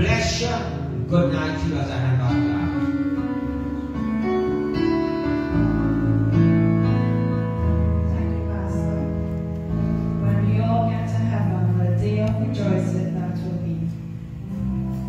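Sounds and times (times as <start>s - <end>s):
keyboard playing slow chords: 0.0s - 15.0s.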